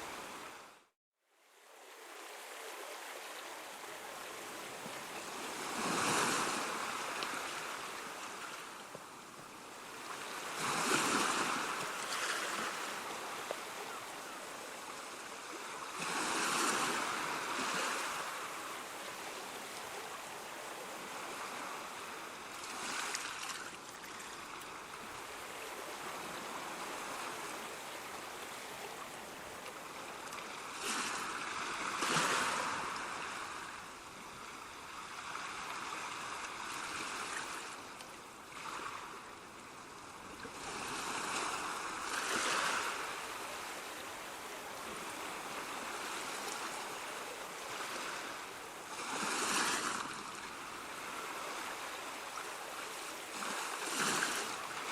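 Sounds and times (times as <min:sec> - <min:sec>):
sea waves breaking on shore: 0:01.6 - 0:54.9.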